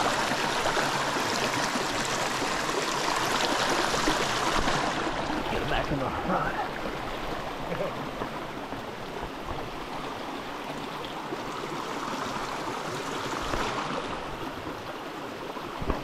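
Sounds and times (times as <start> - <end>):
creek water running over rocks: 0.0 - 16.0.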